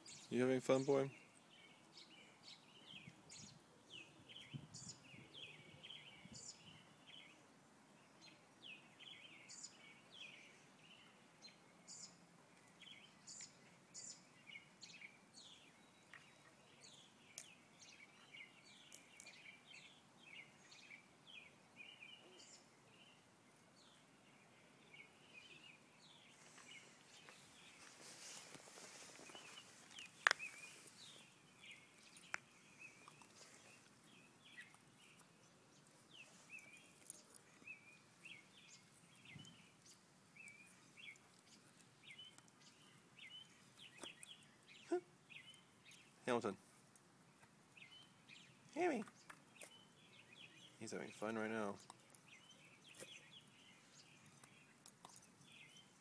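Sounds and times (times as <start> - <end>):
rustle: 0.0 - 56.0
small birds chirping: 0.0 - 56.0.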